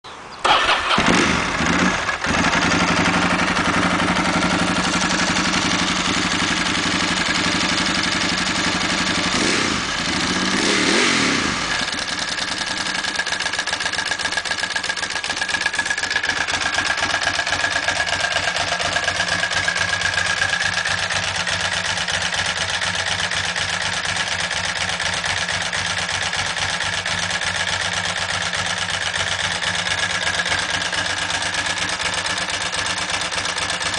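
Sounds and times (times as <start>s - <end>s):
motorcycle engine idling: 0.4s - 33.9s
motorcycle engine revving: 0.4s - 33.9s.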